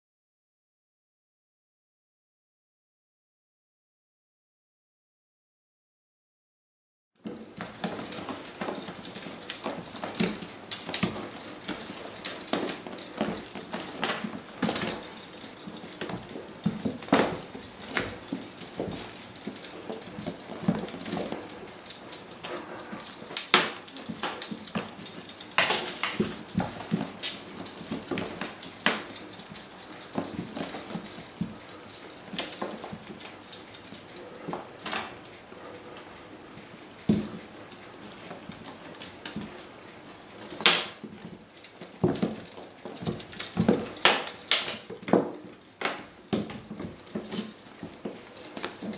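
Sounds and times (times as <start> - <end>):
kittens pawing on tile floor: 7.2 - 48.9.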